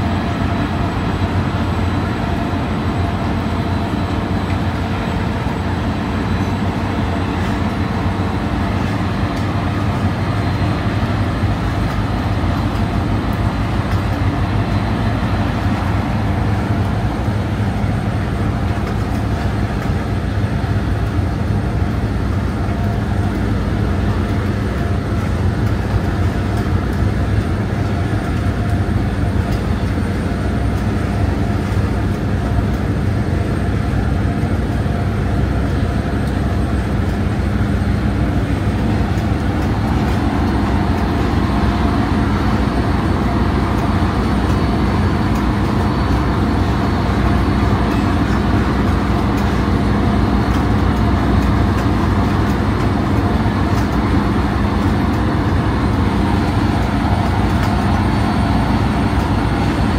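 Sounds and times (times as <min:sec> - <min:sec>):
ship engines droning: 0:00.0 - 0:59.9.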